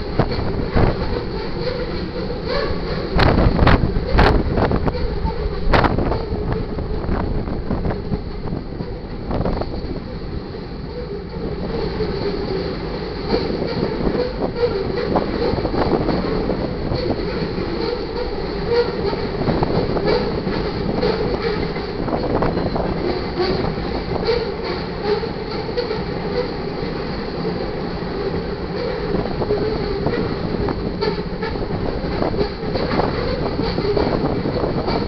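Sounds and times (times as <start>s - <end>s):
clicks and knocks of train cars: 0.0s - 35.0s
freight train wheels rumbling on rail: 0.0s - 35.0s.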